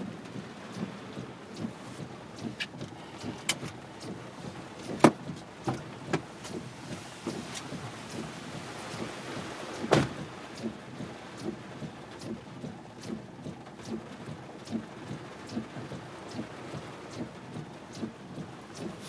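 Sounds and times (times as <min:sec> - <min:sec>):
regular ticking: 0:00.0 - 0:06.7, 0:09.7 - 0:19.0
rain on a car: 0:00.0 - 0:19.0.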